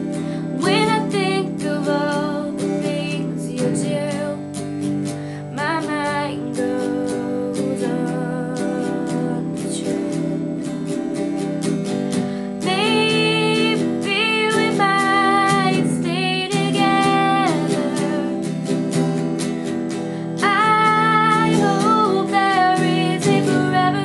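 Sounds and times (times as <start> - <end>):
picked acoustic guitar: 0.0 - 24.0.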